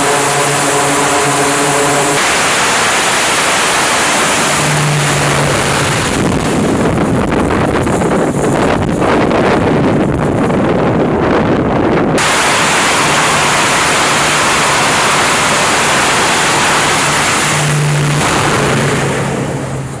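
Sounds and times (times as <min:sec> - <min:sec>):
heavy aircraft rumble: 0:00.0 - 0:20.0
jet engine roaring: 0:00.0 - 0:20.0
wind buffeting microphone: 0:00.0 - 0:20.0.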